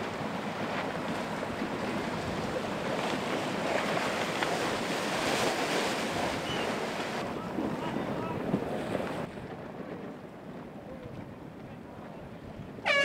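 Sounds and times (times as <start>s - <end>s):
wind buffeting microphone: 0.0s - 12.9s
water splashing along hull: 0.0s - 13.0s.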